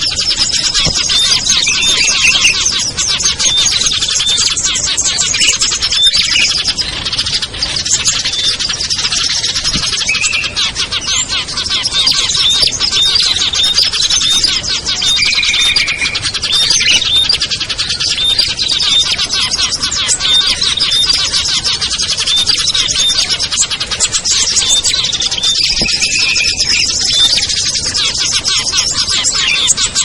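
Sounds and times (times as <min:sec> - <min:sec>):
songbirds chirping and twittering: 0:00.0 - 0:30.0.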